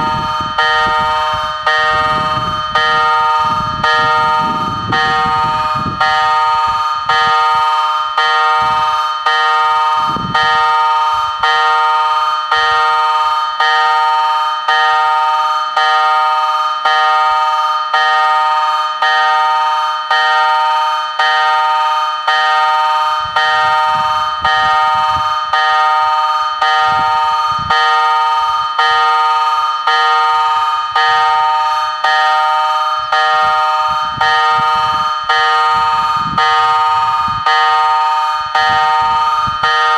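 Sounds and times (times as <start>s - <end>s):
level crossing warning bell ringing: 0.0s - 39.9s.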